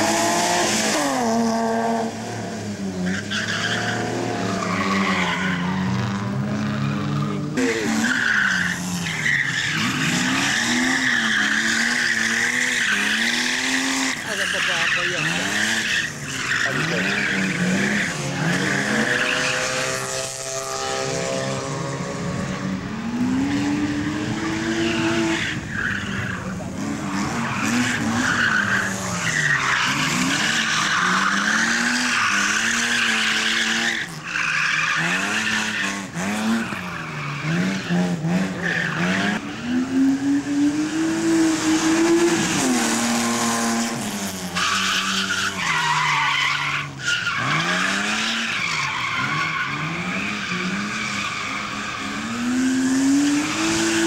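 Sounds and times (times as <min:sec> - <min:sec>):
car engine revving hard: 0:00.0 - 0:02.9, 0:09.6 - 0:25.7, 0:26.6 - 0:54.0
tyres squealing and skidding: 0:02.0 - 0:54.0.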